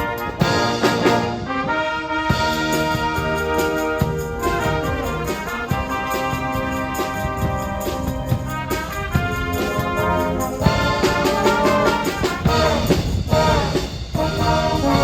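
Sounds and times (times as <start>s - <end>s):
brass chords: 0.0s - 15.0s.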